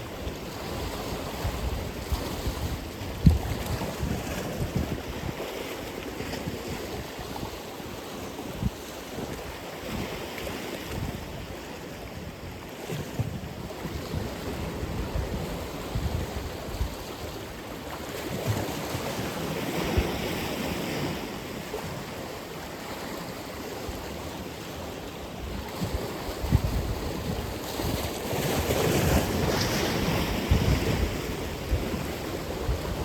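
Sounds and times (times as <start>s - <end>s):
wind buffeting microphone: 0.0s - 21.9s, 25.4s - 33.0s
ocean surf washing ashore: 0.0s - 33.0s.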